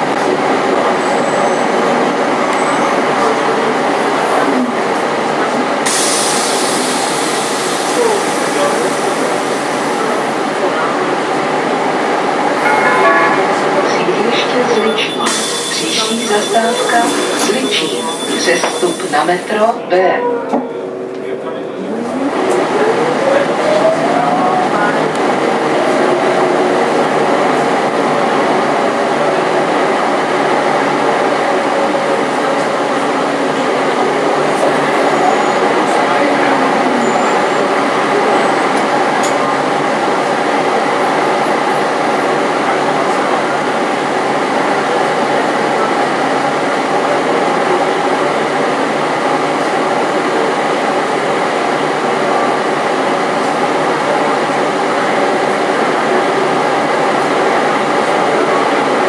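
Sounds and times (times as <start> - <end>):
bus engine and road noise: 0.0 - 19.6, 20.8 - 59.0.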